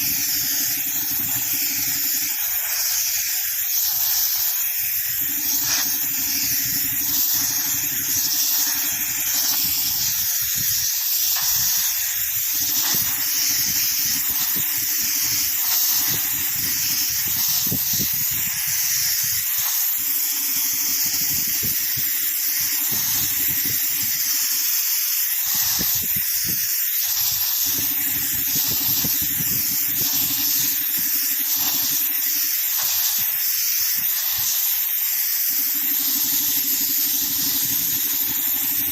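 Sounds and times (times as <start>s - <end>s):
compressed air hissing from hose: 0.0s - 38.9s.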